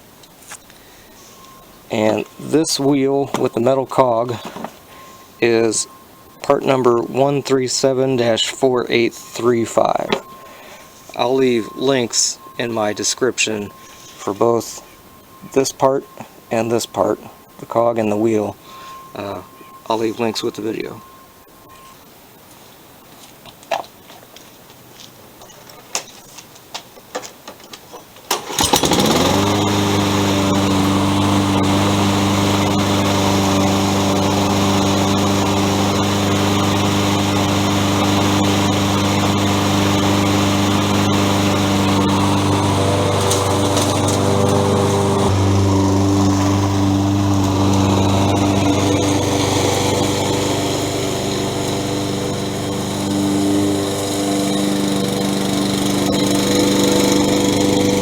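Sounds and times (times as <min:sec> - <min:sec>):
lawn mower engine running: 0:00.0 - 0:21.9, 0:28.3 - 0:58.0.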